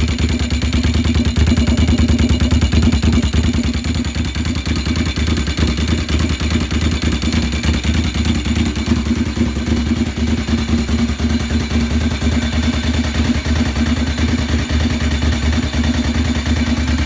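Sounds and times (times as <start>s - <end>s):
unmuffled motorcycle engine idling: 0.0s - 17.0s.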